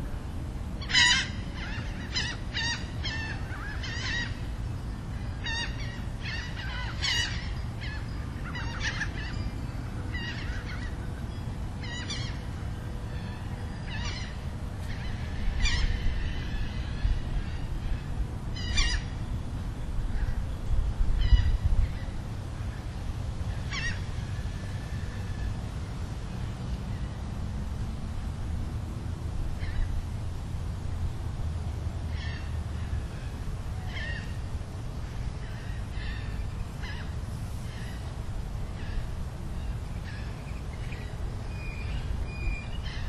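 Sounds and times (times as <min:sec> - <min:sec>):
birds calling: 0:00.8 - 0:25.6, 0:32.0 - 0:43.0.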